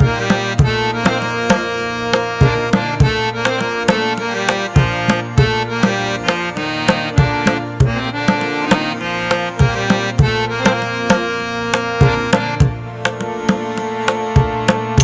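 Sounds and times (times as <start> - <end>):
repeating drum beat: 0.0 - 15.0.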